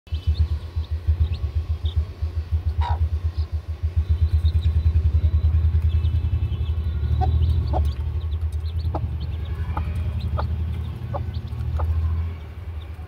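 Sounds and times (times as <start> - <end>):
chicks peeping: 0.1 - 13.0
engine thumping: 0.1 - 13.0.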